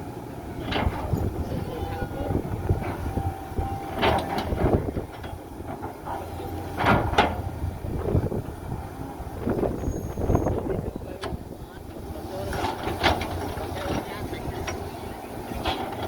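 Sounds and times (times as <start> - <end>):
heavy machinery rumbling: 0.0 - 16.0.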